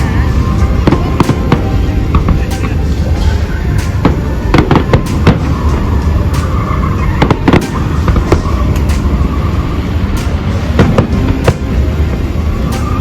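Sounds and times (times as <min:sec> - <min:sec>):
continuous low rumble: 0:00.0 - 0:13.0
fireworks bangs and cracks: 0:00.0 - 0:13.0.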